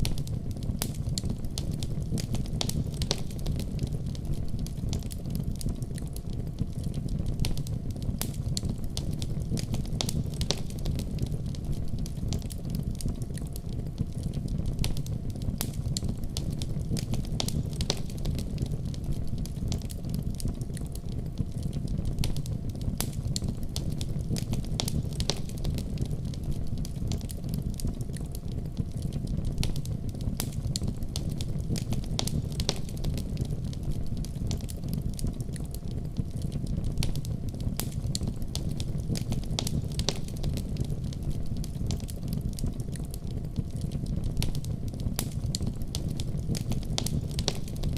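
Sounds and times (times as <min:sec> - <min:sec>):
low rumble of fire: 0:00.0 - 0:47.9
wood fire crackling: 0:00.0 - 0:47.9.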